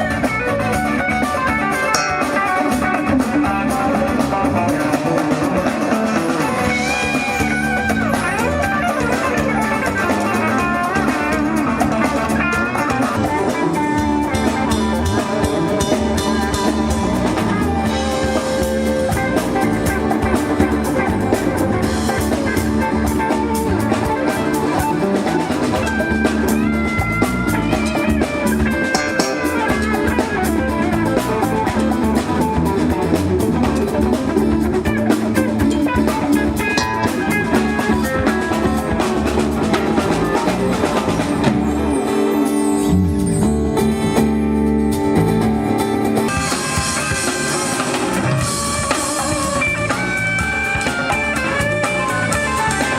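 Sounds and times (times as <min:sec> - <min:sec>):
drum kit: 0:00.0 - 0:52.9
guitar: 0:00.0 - 0:52.9
melodic lead line: 0:00.0 - 0:52.9.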